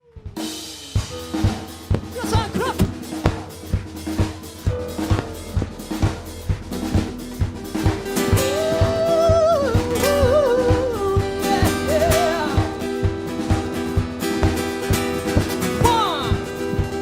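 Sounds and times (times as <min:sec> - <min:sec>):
drum kit beat: 0:00.0 - 0:17.0
bass and held chords: 0:00.1 - 0:17.0.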